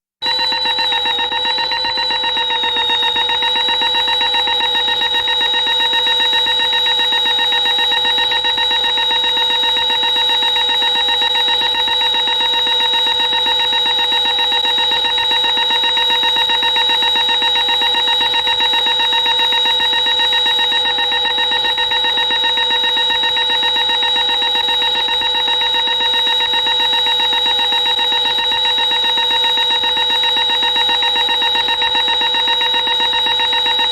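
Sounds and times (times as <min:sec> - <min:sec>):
electronic alarm tone with trill: 0:00.2 - 0:33.9.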